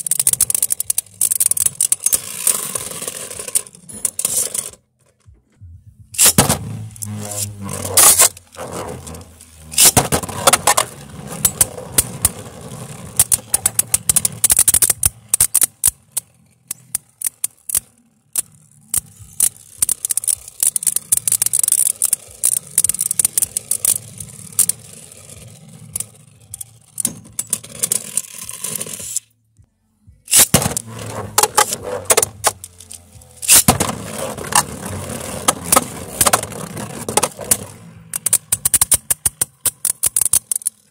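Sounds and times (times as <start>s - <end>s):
spinning tops whirring and scraping: 0.0s - 4.8s, 6.2s - 29.4s, 30.3s - 40.9s.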